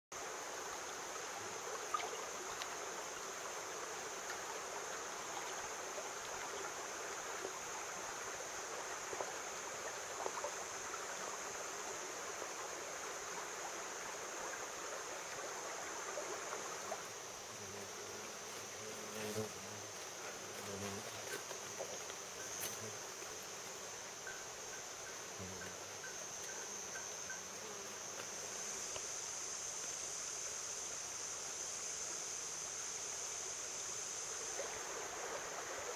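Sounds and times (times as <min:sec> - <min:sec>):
insects droning: 0:00.2 - 0:35.9
rushing water-like hiss: 0:00.2 - 0:35.9.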